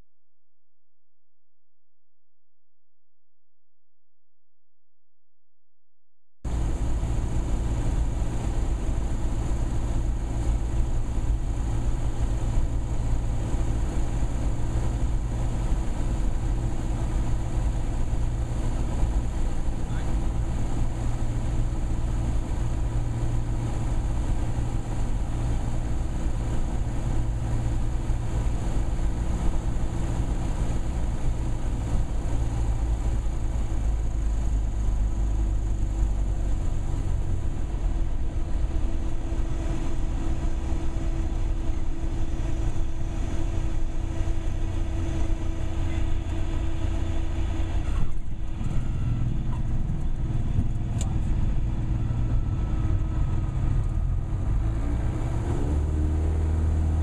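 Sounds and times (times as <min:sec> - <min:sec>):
aircraft propeller engine droning: 0:06.5 - 0:57.0
wind noise: 0:06.5 - 0:57.0.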